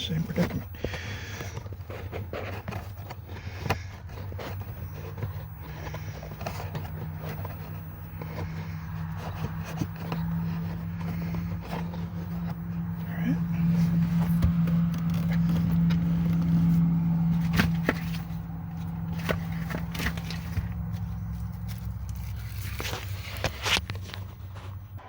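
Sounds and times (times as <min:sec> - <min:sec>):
higher mechanical hum: 0:00.0 - 0:25.0
low mechanical hum: 0:00.0 - 0:25.0
scraping and clicking handling noises: 0:00.0 - 0:25.0.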